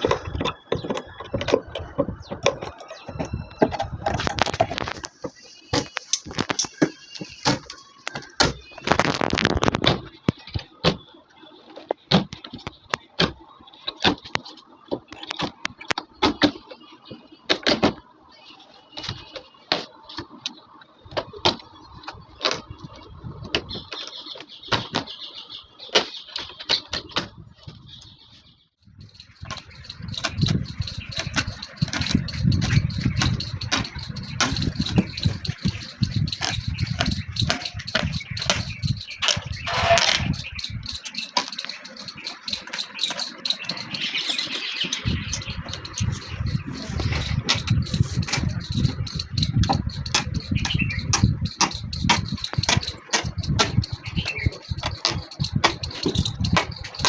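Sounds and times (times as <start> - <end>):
upholstery work clicks and knocks: 0.0 - 11.1, 11.8 - 18.1, 18.9 - 21.7, 22.3 - 25.3, 25.9 - 27.4, 29.0 - 57.0.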